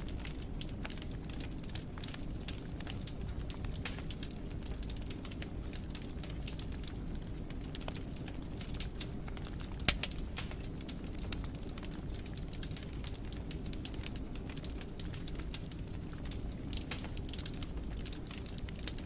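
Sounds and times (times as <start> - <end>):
fire crackling in a fireplace: 0.0 - 19.0.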